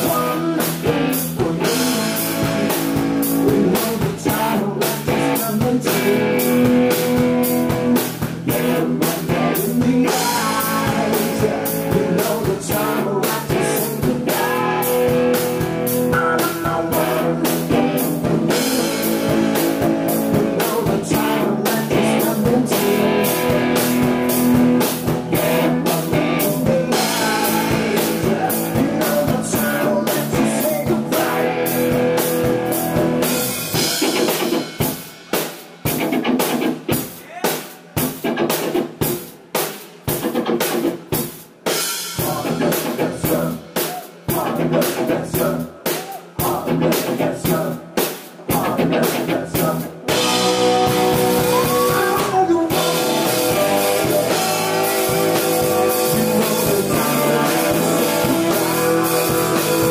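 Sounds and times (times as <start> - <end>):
man singing: 0.0 - 33.2, 37.2 - 38.1, 42.2 - 59.9
drum kit beat: 0.0 - 59.9
electric guitar: 0.0 - 59.9.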